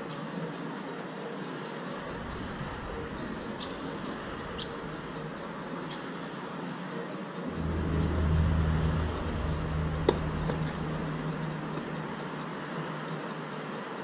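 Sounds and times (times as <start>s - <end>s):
low engine-like hum: 1.9s - 14.0s.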